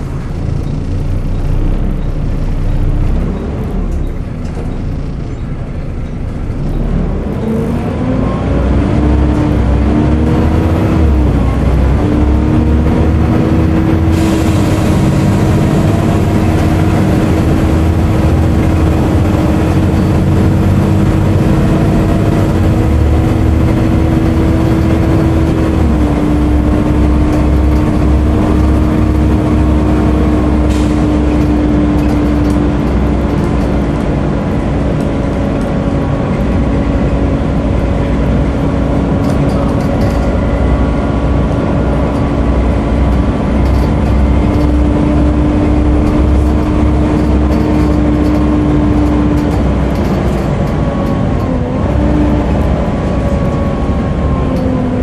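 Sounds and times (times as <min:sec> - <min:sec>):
diesel engine low rumble: 0:00.0 - 0:55.0
road noise: 0:00.0 - 0:55.0.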